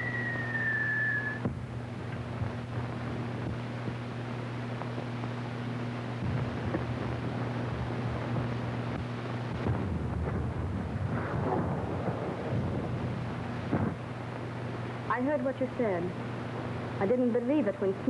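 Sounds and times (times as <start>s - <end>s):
crackling bursts: 0.0s - 17.1s
film soundtrack hum and hiss: 0.0s - 18.0s.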